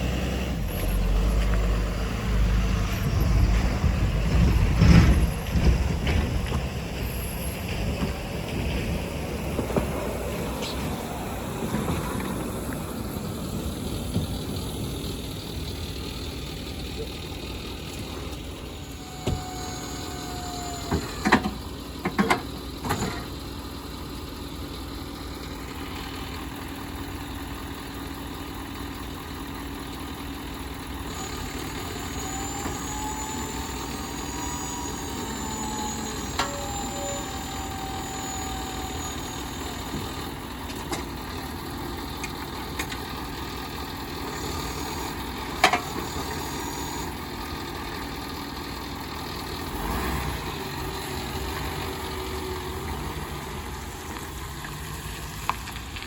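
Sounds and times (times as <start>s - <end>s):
diesel locomotive engine idling: 0.0s - 56.0s.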